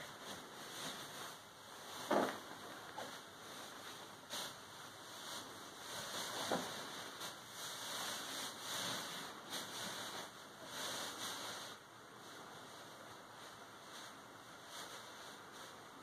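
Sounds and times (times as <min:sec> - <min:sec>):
rustling on fabric cushions: 0:00.0 - 0:16.0.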